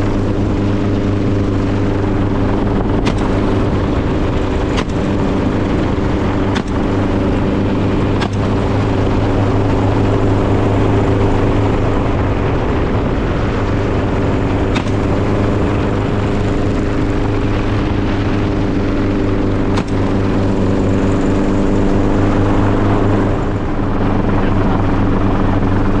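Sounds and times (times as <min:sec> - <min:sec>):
motor droning: 0:00.0 - 0:26.0.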